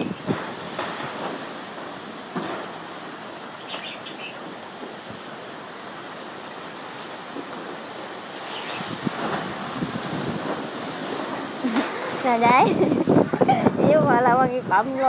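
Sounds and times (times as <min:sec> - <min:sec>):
rain and wind hiss: 0:00.0 - 0:15.0.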